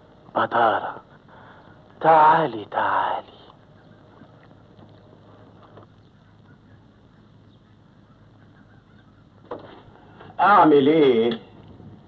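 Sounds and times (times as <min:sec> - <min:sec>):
film hum and hiss: 0:00.0 - 0:12.0.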